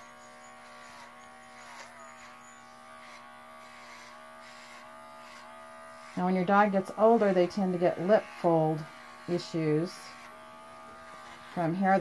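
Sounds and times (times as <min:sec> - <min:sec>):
pet clipper buzzing: 0:00.0 - 0:12.0.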